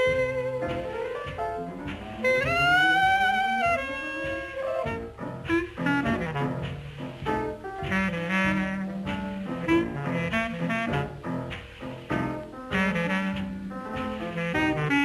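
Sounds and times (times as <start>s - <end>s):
jazz band music: 0.0s - 15.0s.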